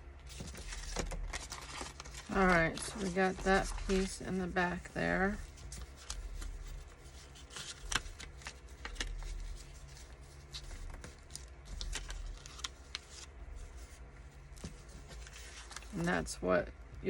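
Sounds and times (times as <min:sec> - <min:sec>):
faint low hum: 0:00.0 - 0:17.0
paper rustling: 0:00.2 - 0:16.2.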